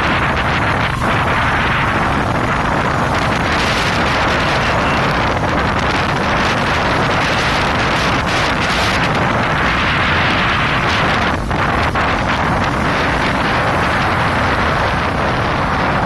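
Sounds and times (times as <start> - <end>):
heavy rain: 0.0 - 16.0
wind on microphone: 0.0 - 16.0.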